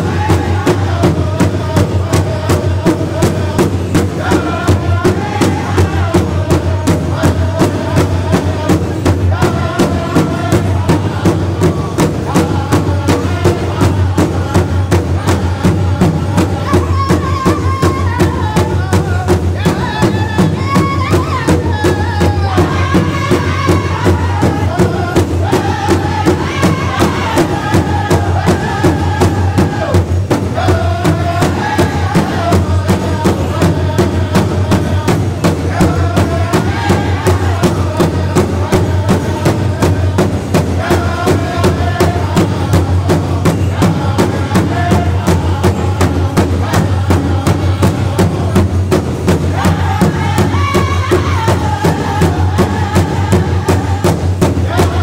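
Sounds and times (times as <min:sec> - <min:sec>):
group singing in unison: 0:00.0 - 0:55.0
large hide drum beat: 0:00.0 - 0:55.0.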